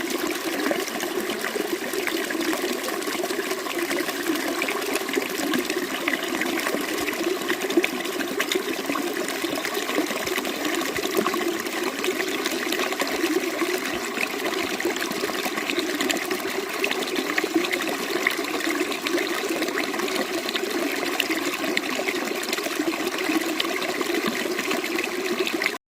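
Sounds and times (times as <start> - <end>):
running water splashing: 0.0 - 25.8.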